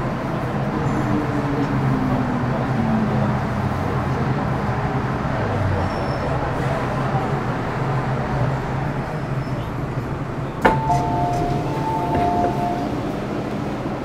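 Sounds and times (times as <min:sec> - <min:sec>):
train running in tunnel: 0:00.0 - 0:14.0.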